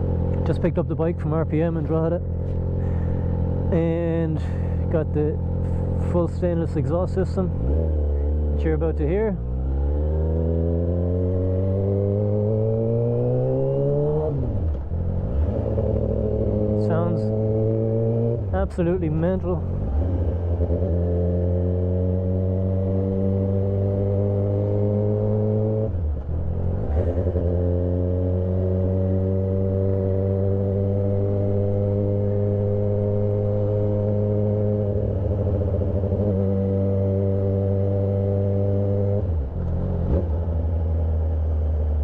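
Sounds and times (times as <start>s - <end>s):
motorcycle engine pulling at low revs: 0.0s - 42.0s.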